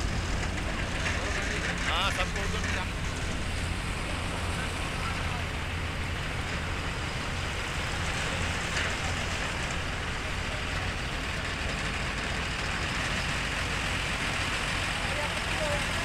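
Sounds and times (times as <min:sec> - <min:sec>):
heavy truck engines humming: 0:00.0 - 0:16.0
road traffic noise: 0:00.0 - 0:16.0.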